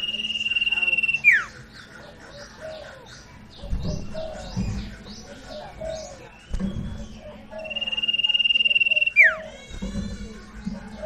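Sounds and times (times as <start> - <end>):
songbird whistling and chirping: 0.0 - 9.8.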